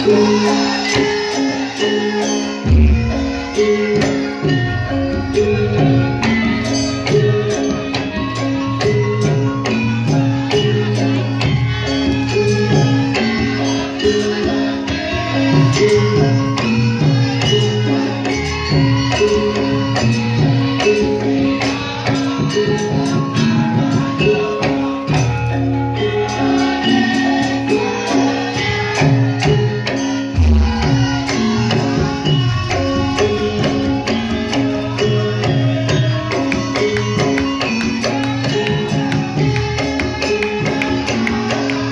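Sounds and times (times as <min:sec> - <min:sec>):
busy percussion: 0:00.0 - 0:41.9
live instrumental band music: 0:00.0 - 0:41.9.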